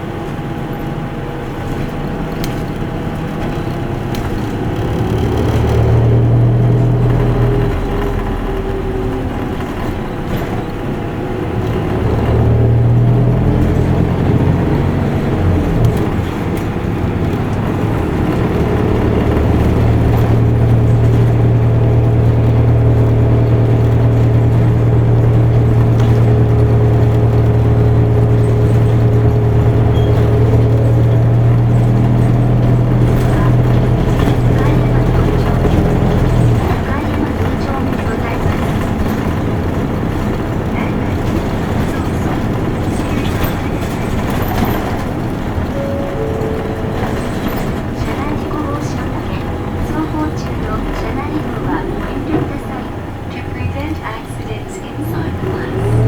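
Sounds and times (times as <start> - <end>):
bus diesel engine from inside: 0.0 - 56.0.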